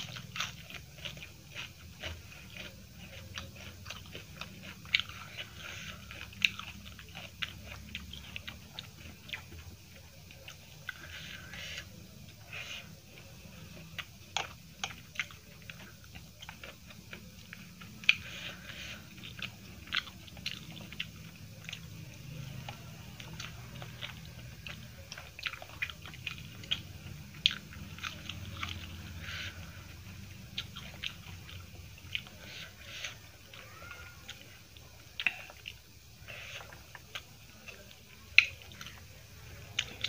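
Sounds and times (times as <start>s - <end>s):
chewing and biting: 0.0s - 40.0s
low steady hum: 0.0s - 40.0s.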